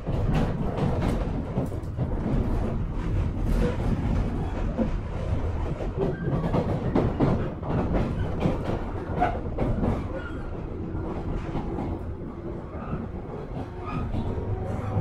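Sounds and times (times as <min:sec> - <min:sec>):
train interior rumble: 0:00.0 - 0:15.0
wheels clacking over rail joints: 0:00.0 - 0:15.0.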